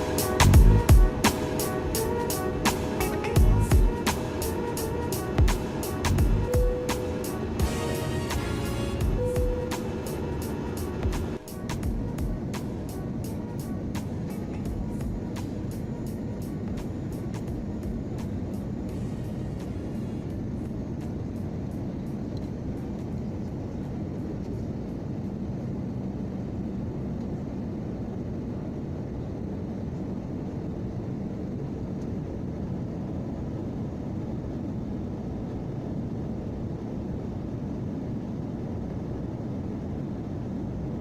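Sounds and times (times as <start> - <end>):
airplane engines droning: 0.0 - 41.0.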